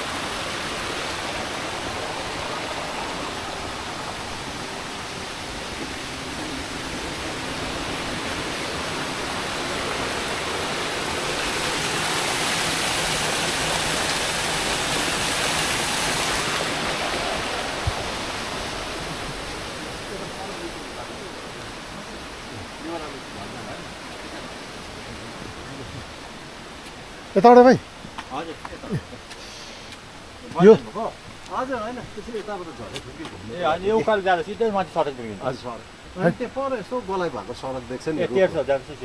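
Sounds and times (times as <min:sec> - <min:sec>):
flowing water rushing: 0:00.0 - 0:39.0.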